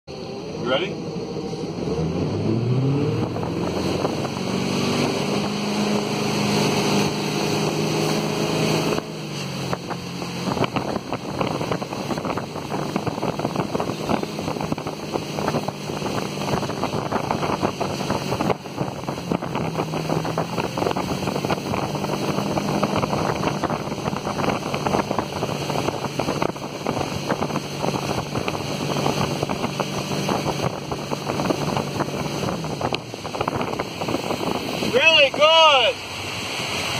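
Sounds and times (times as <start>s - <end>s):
motorboat engine: 0.1s - 36.9s
wind on microphone: 0.1s - 36.9s
water spray rushing: 3.4s - 36.9s.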